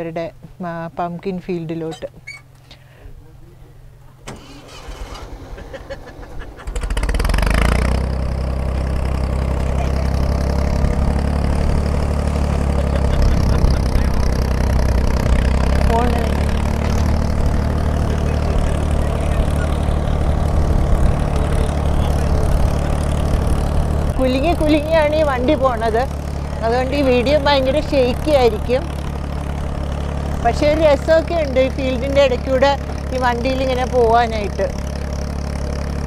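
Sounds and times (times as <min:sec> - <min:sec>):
truck engine rumbling: 0:00.0 - 0:36.0.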